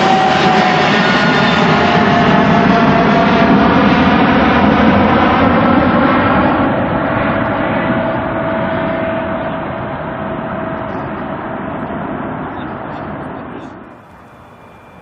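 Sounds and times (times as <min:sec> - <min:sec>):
jet engines passing close: 0:00.0 - 0:15.0.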